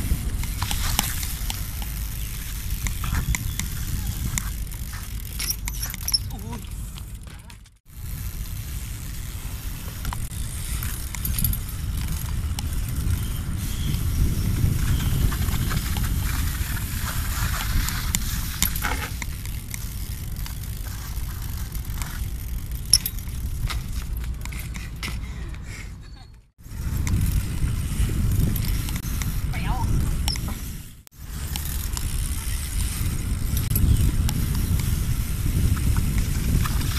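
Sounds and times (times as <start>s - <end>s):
bike tyres rolling on stone: 0.0s - 25.6s, 26.6s - 36.9s
bike metal rattles: 0.0s - 36.9s.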